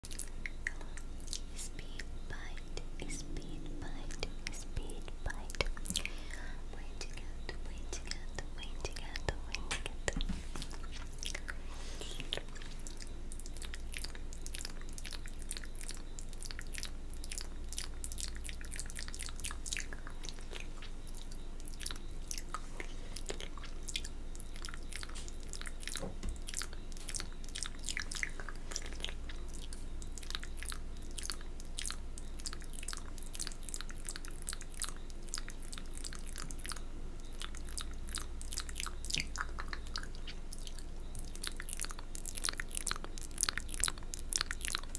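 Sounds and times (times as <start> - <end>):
wet mouth clicking and smacking: 0.0 - 4.6, 8.9 - 44.9.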